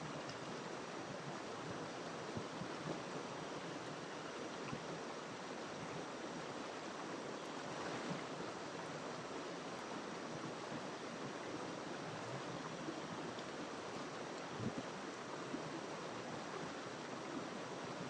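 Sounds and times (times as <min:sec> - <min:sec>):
river flowing over rocks: 0:00.0 - 0:18.0.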